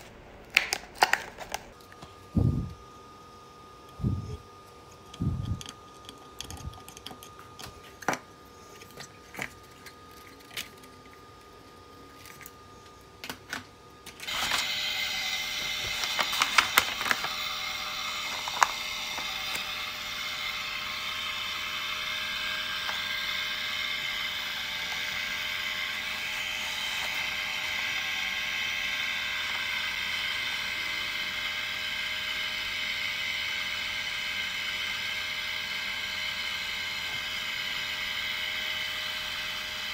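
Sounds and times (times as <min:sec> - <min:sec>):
small electric motor running: 0:02.3 - 0:03.0, 0:03.7 - 0:11.1, 0:14.2 - 0:39.9.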